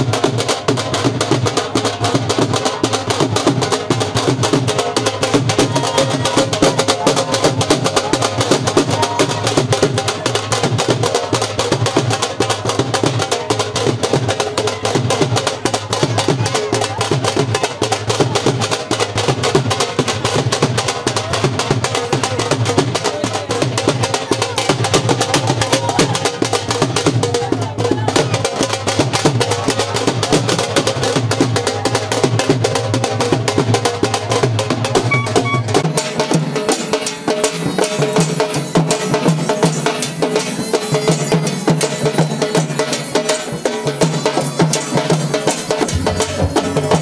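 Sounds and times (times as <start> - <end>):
drums beaten with sticks: 0.0 - 47.0.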